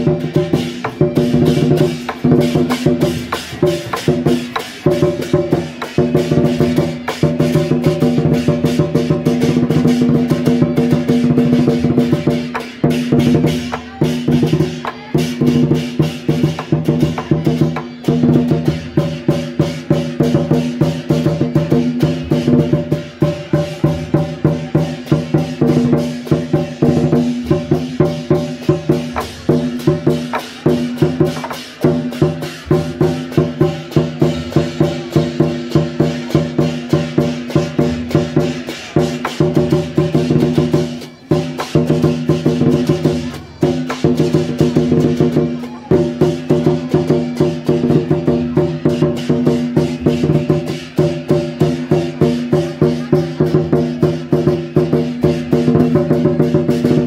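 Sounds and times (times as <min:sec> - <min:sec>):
fast drum and wood-block strikes: 0:00.0 - 0:57.0.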